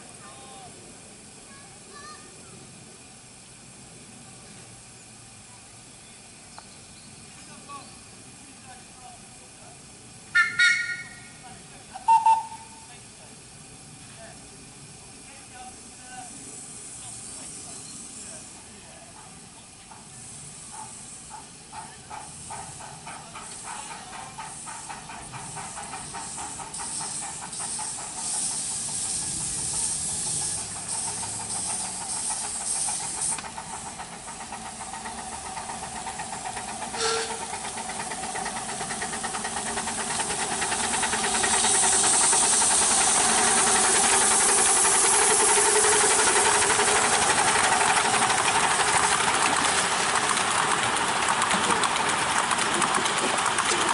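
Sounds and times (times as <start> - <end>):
steam hissing: 0.0 - 53.9
steam locomotive chuffing: 0.0 - 53.9.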